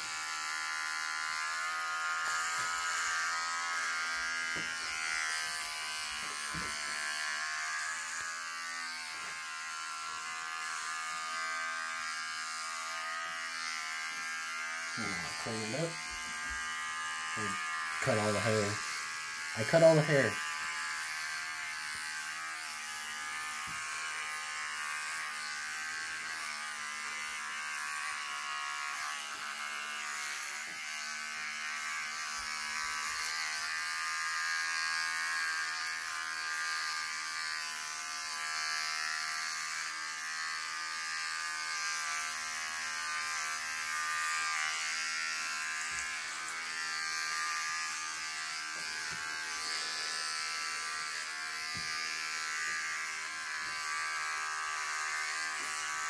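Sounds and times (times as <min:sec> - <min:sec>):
electric hair clippers buzzing: 0:00.0 - 0:56.0.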